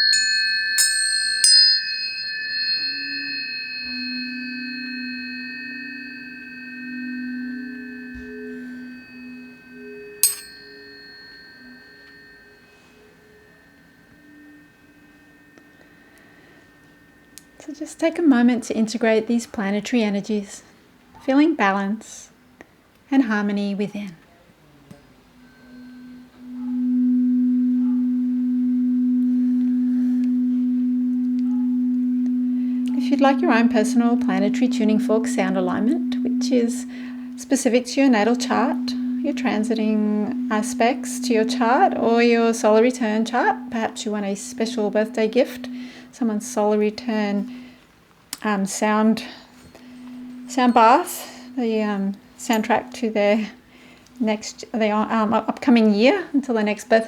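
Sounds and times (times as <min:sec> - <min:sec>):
tuning fork struck: 0:00.0 - 0:19.1, 0:25.3 - 0:47.8, 0:48.4 - 0:53.6
tuning forks ringing: 0:00.0 - 0:19.4, 0:25.1 - 0:47.8, 0:48.4 - 0:56.0.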